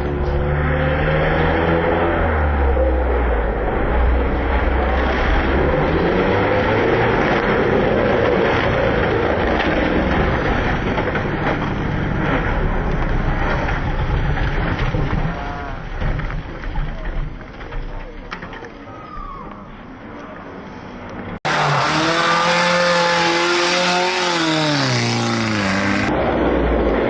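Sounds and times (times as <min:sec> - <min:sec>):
rally car engine revving: 0:00.0 - 0:17.4, 0:21.4 - 0:27.0.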